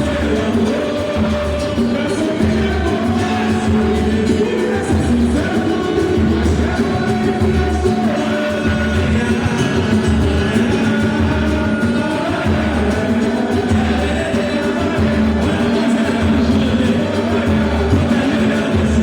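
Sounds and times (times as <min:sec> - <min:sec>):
person singing: 0:00.0 - 0:19.0
samba band playing: 0:00.0 - 0:19.0.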